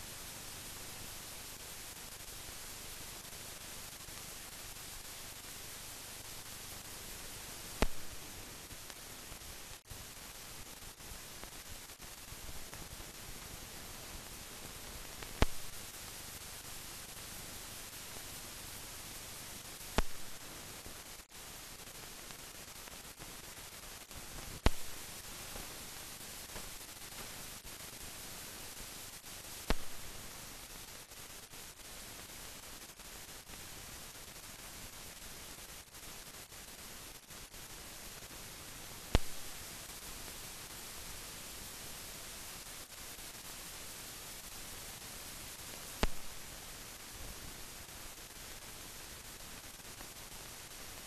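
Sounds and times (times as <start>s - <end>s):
film soundtrack hiss: 0.0s - 51.0s.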